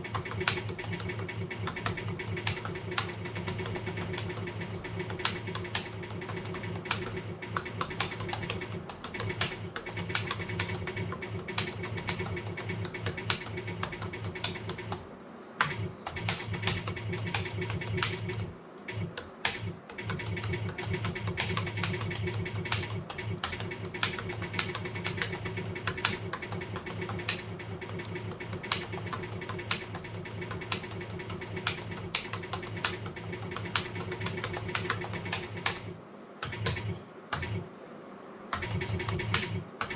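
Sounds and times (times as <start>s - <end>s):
keyboard typing clicks: 0.0s - 37.7s, 38.5s - 39.9s
steady low hum: 0.0s - 39.9s.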